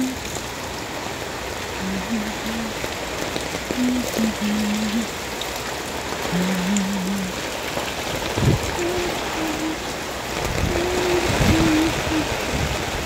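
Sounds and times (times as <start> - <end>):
heavy rain on leaves and roofs: 0.0 - 13.0.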